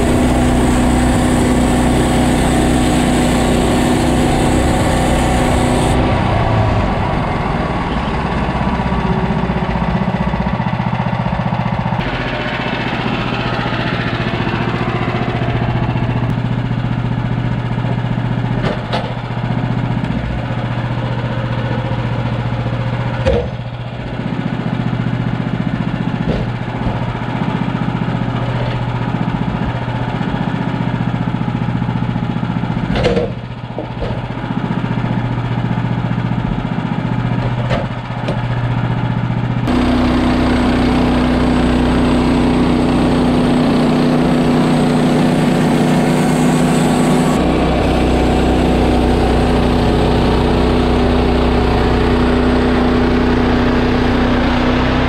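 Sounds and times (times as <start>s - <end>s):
gas engine running: 0.0s - 55.0s.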